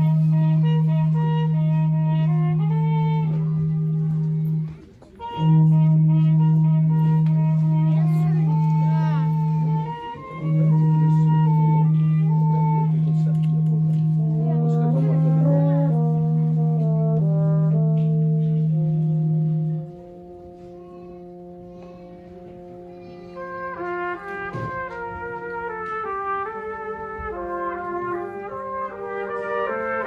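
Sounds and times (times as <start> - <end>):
brass quartet playing: 0.0 - 20.8, 22.5 - 30.0.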